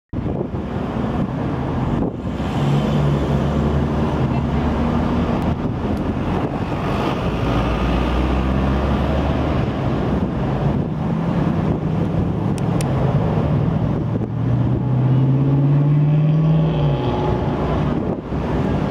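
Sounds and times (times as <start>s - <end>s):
road traffic rumble: 0.1s - 18.9s
wind buffeting microphone: 0.1s - 18.9s.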